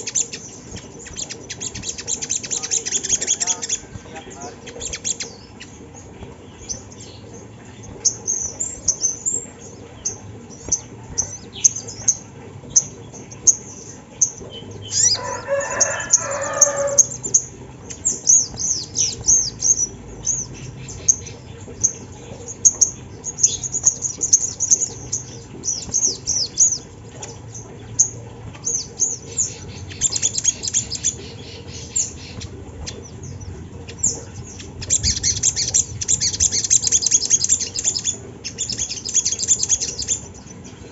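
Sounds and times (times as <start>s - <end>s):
bird singing high chips and trills: 0.0s - 40.9s.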